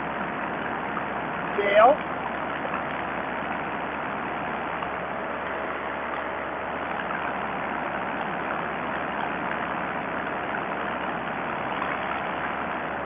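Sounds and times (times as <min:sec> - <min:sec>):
paramotor engine and propeller drone: 0:00.0 - 0:13.0.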